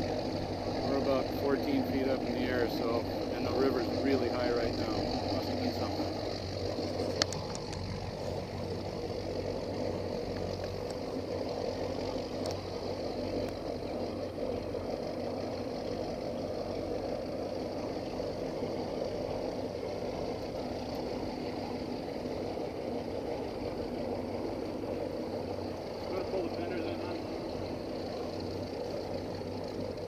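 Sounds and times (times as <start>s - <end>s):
motorboat engine running: 0.0s - 30.0s.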